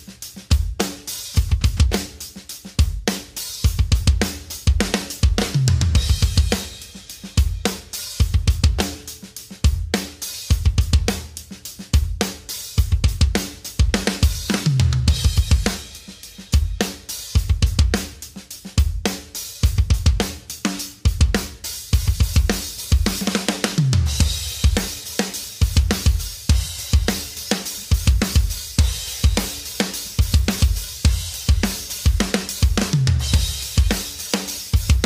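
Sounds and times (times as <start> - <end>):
drum fill: 0.0 - 35.0
drum kit rock beat: 0.0 - 35.0.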